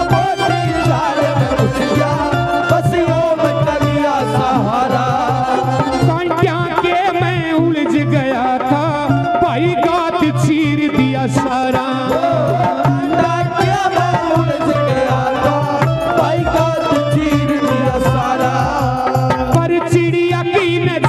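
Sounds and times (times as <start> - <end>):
hand drum rhythm: 0.0 - 21.0
man singing devotional song: 0.0 - 21.0.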